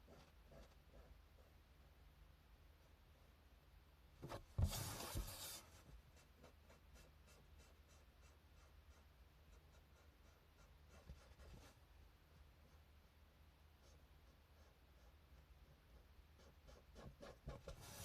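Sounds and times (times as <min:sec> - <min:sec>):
pencil scratching on paper: 0:00.0 - 0:01.6, 0:04.6 - 0:18.0.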